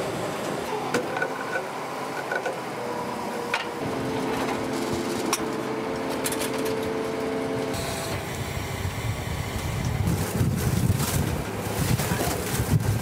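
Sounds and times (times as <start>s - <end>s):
winch humming: 0.0s - 12.8s
wind: 0.0s - 13.0s.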